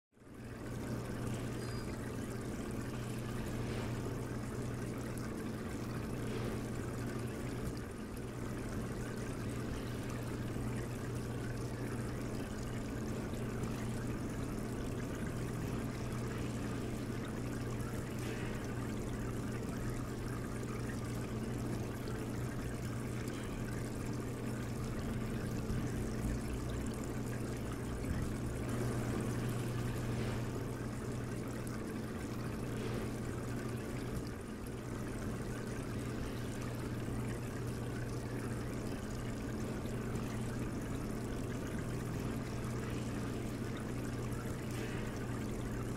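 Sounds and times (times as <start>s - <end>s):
low hum: 0.2s - 45.9s
water trickling through speakers: 0.2s - 45.9s.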